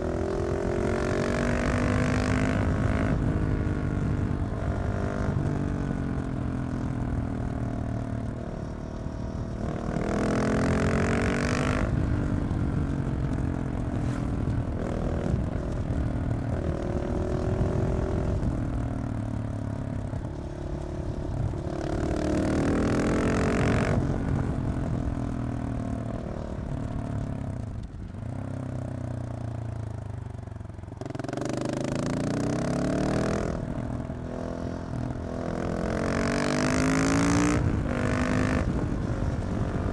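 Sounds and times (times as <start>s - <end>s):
motorcycle engine revving: 0.0s - 30.1s, 30.9s - 39.9s.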